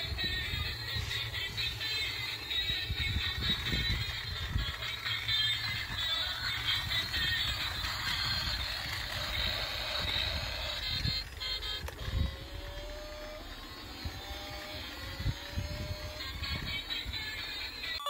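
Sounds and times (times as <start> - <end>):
electronic rising tone: 0.0 - 18.0
toy car motor whirring: 0.0 - 18.0.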